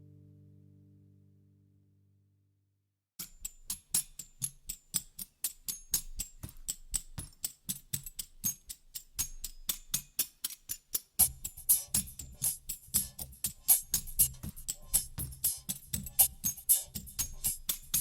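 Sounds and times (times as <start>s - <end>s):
fast percussion ticks: 3.2s - 18.0s.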